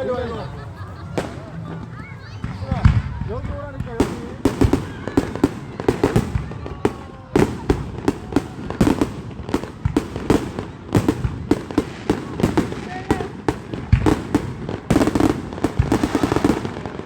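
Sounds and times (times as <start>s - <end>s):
fireworks bangs and pops: 1.0s - 17.0s.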